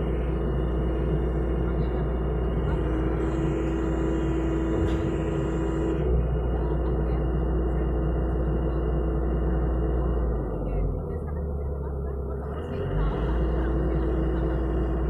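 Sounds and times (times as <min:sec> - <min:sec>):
excavator diesel engine drone: 0:00.0 - 0:15.0.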